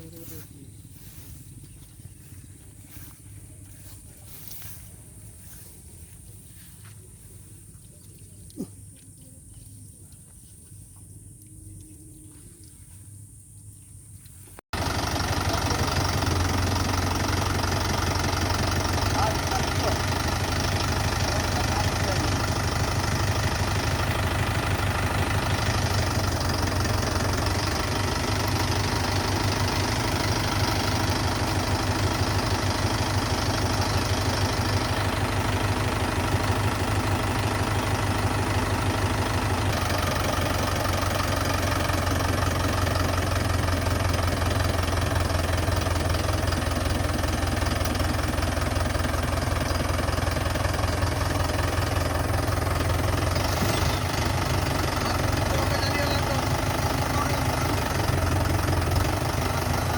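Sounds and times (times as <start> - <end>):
tractor diesel engine idling: 0.0 - 8.2, 14.7 - 59.9.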